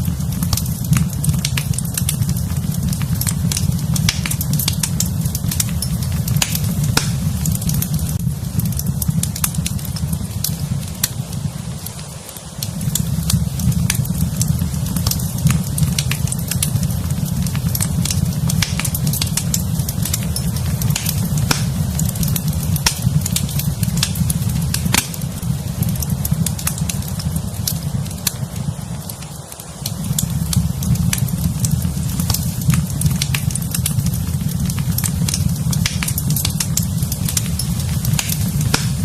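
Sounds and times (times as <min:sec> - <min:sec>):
low rumble of flames: 0:00.0 - 0:39.0
wood fire crackling and popping: 0:00.0 - 0:39.0.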